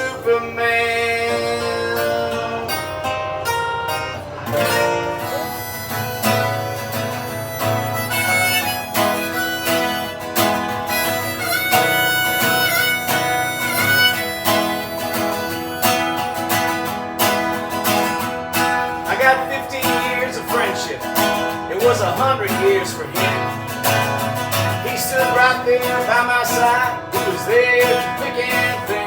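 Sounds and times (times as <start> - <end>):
bending melody line: 0.0 - 29.0
strummed acoustic guitar: 0.0 - 29.0.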